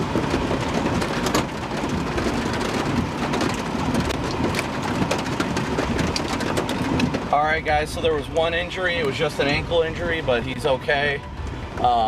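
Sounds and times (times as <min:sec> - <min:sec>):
heavy rain on a vehicle: 0:00.0 - 0:12.0
low rumble: 0:00.0 - 0:12.0.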